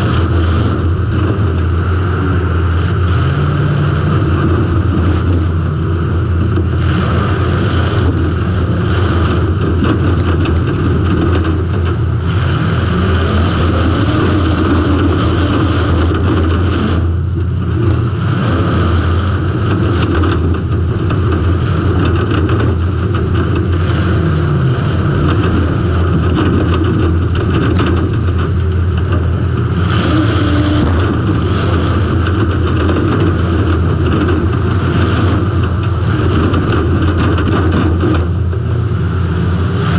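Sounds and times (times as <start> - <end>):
car engine running loud: 0.0 - 39.9.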